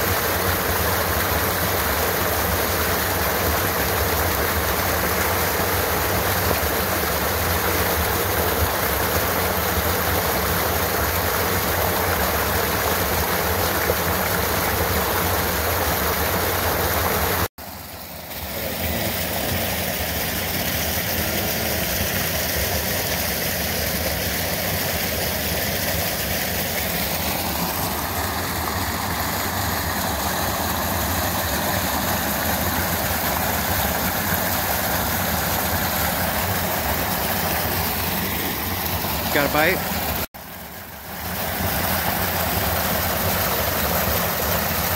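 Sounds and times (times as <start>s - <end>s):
waterfall pouring into a pool: 0.0s - 44.9s.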